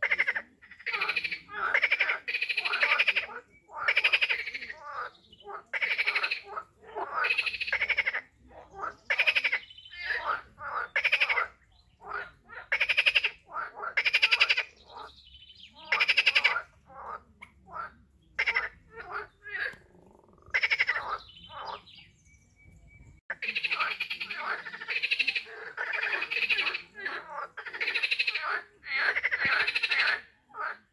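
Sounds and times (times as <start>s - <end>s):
frogs croaking: 0.0s - 22.1s, 23.3s - 30.9s.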